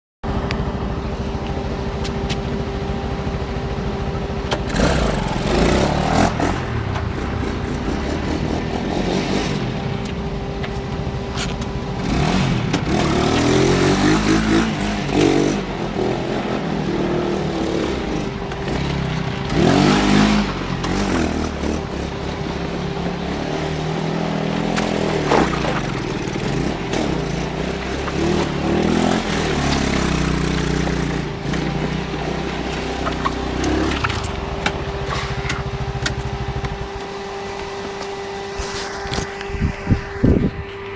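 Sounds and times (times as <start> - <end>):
atv engine revving: 0.3 - 40.8.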